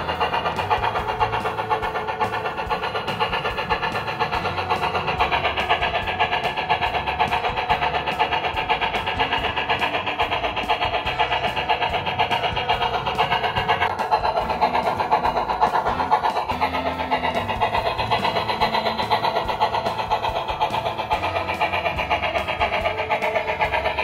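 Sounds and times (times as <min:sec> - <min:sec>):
model train clicking: 0:00.0 - 0:24.0.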